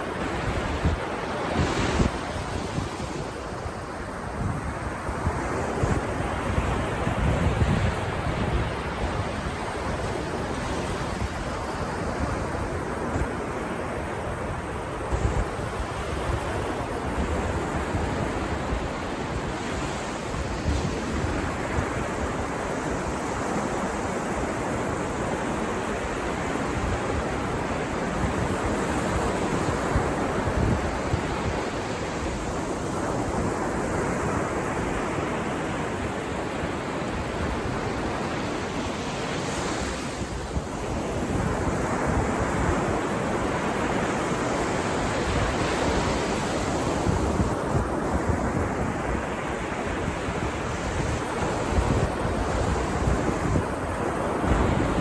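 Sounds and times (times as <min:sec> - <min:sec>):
wind buffeting microphone: 0:00.0 - 0:24.9, 0:26.0 - 0:55.0.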